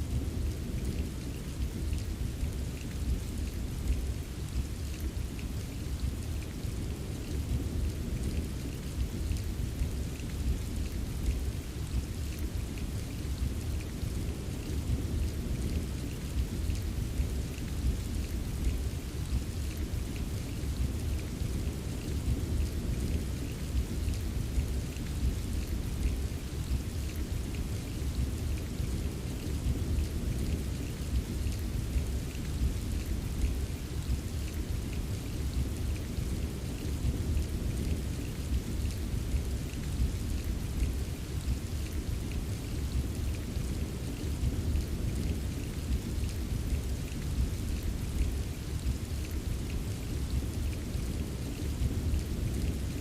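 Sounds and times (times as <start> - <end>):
rain with drop taps: 0.0 - 53.0.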